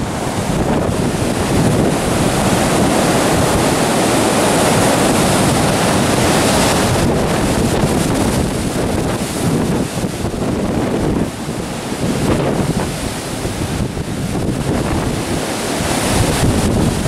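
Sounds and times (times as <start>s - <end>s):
wind buffeting microphone: 0.0s - 17.0s
wind through trees: 0.0s - 17.0s.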